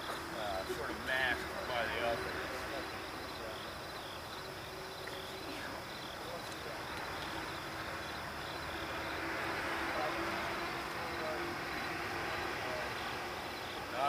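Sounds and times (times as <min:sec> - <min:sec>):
insects chirping: 0:00.0 - 0:14.0
steady outdoor hiss: 0:00.0 - 0:14.0.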